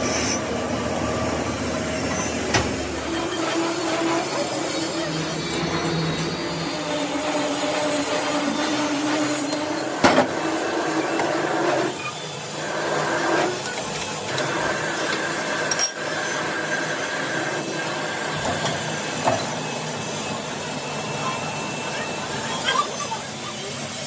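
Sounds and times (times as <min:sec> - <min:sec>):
lathe whirring: 0:00.0 - 0:24.0
drill bit scraping steel: 0:01.3 - 0:21.0.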